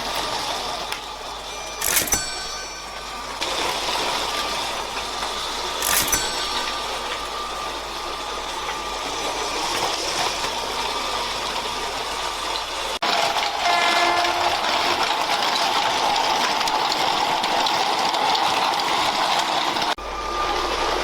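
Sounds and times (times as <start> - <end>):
toy train rattling on track: 0.0 - 20.0
sharp clatter: 0.9 - 17.9.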